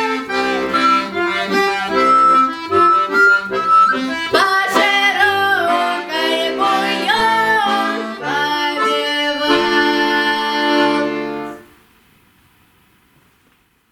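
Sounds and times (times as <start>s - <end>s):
person singing: 0.0s - 11.6s
accordion playing folk song: 0.0s - 11.7s
faint room noise: 0.0s - 13.9s.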